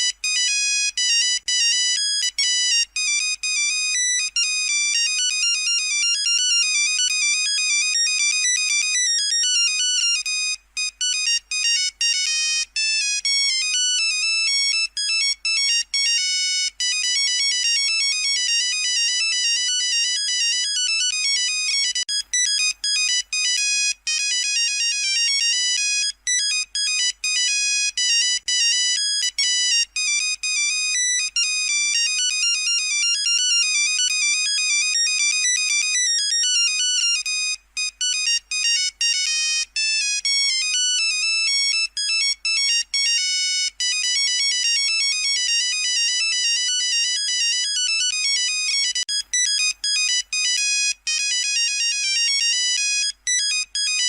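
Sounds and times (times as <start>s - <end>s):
monophonic phone ringtone beeping: 0.0s - 54.0s.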